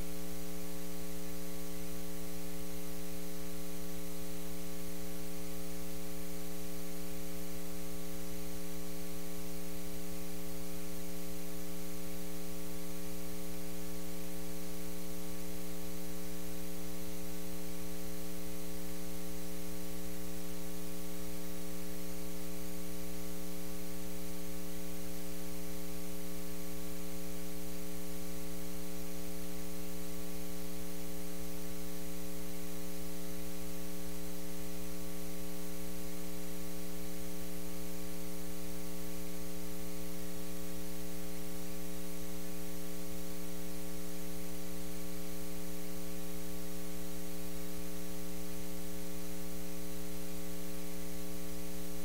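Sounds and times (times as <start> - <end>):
electrical hum with hiss: 0.0 - 52.0.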